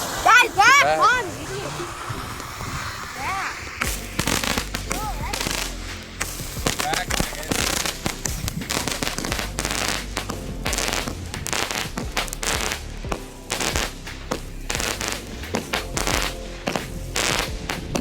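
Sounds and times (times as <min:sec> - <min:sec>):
firework crackle: 0:00.0 - 0:18.0
firework shots launching and bursting: 0:00.0 - 0:18.0.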